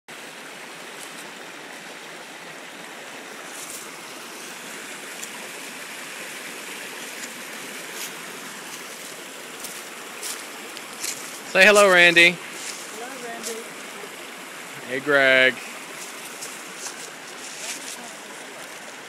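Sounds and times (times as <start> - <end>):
creek water flowing: 0.1 - 19.0.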